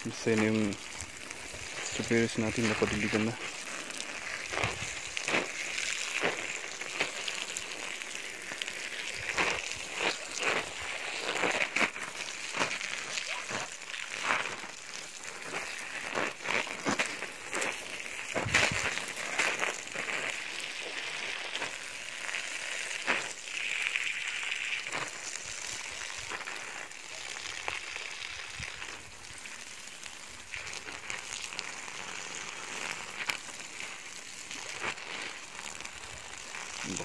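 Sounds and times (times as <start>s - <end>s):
hose water splashing on plastic: 0.0s - 37.0s.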